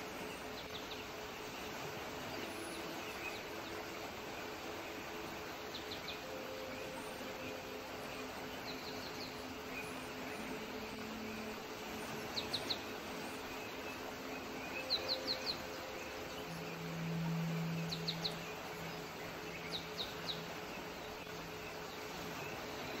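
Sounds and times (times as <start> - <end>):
low hum: 0.0 - 23.0
river water rushing: 0.0 - 23.0
bird chirping: 0.1 - 23.0.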